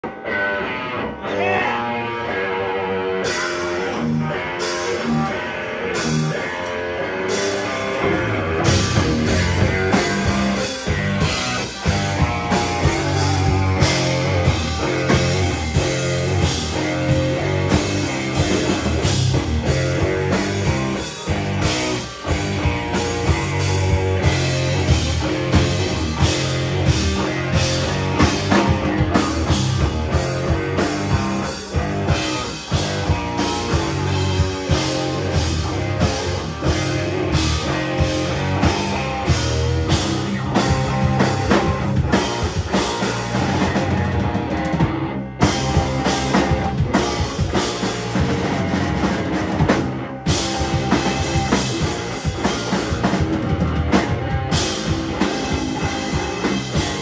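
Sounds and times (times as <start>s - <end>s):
rock band playing heavy riff: 0.0s - 57.0s.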